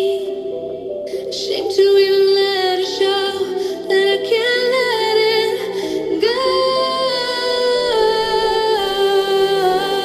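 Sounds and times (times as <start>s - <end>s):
woman singing long notes: 1.1s - 10.0s.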